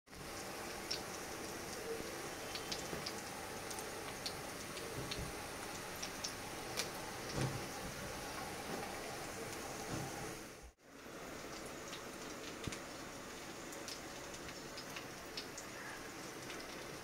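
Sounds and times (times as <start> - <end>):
fritters frying in oil: 0.1 - 17.0
oil popping and crackling: 0.1 - 17.0.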